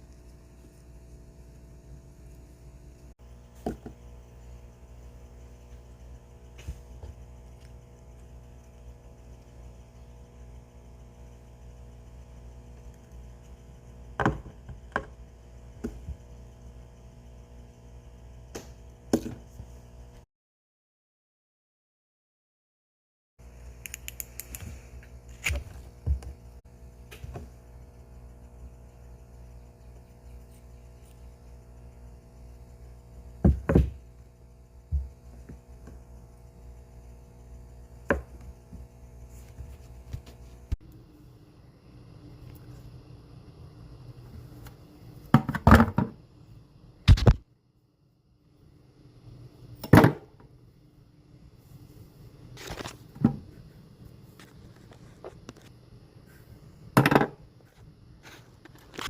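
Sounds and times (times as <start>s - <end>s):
low steady hum: 0.0s - 20.2s, 23.4s - 59.0s.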